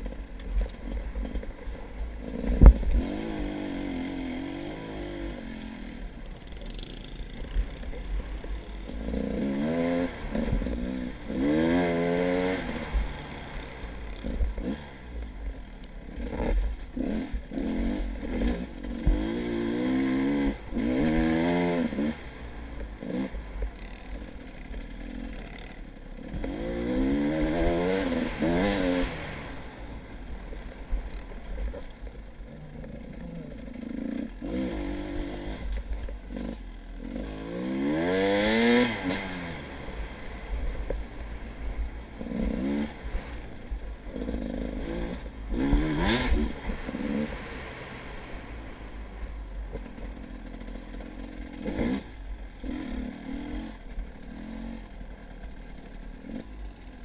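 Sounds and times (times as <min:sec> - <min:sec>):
engine revving: 0:02.2 - 0:15.2, 0:16.1 - 0:57.0.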